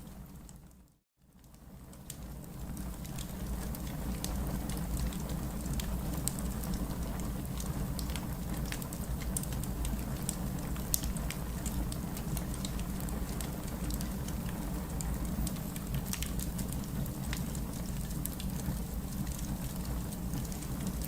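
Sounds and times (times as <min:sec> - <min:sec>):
wood fire crackling: 0:01.4 - 0:21.0
heavy rain: 0:02.7 - 0:21.0.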